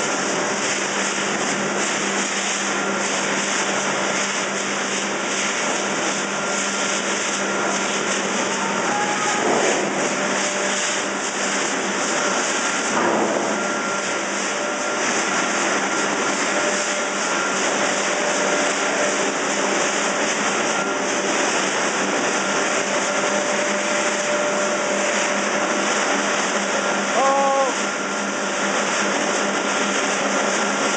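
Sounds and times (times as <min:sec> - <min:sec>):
processing machinery running: 0:00.0 - 0:30.9.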